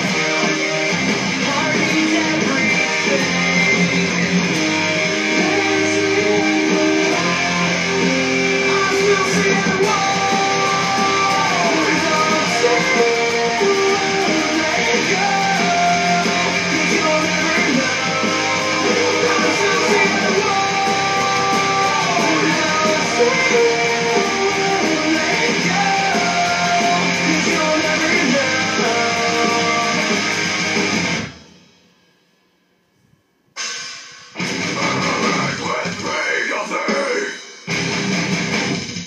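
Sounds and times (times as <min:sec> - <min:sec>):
electric guitar heavy rock riff: 0:00.0 - 0:31.7, 0:33.6 - 0:39.0.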